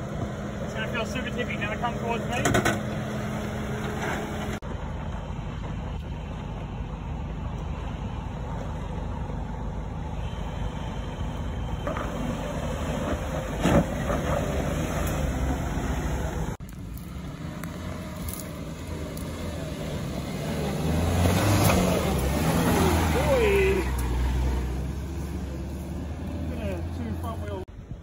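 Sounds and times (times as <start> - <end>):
car engine at low revs: 0.0 - 28.0.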